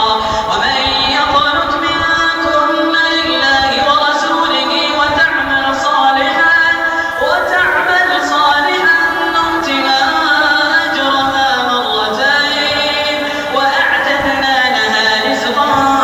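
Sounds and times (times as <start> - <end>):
person chanting melodically: 0.0 - 16.0.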